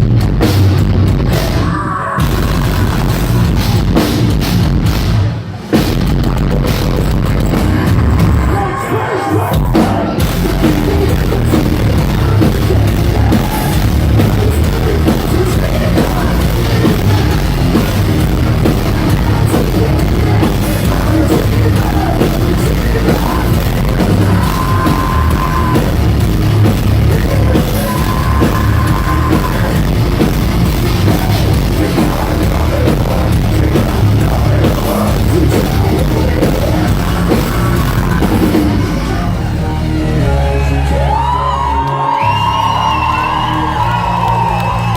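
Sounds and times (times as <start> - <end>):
distorted guitars and bass: 0.0 - 44.9
heavy drums: 0.0 - 44.9
person singing: 1.4 - 3.8, 7.2 - 26.2, 27.0 - 44.0.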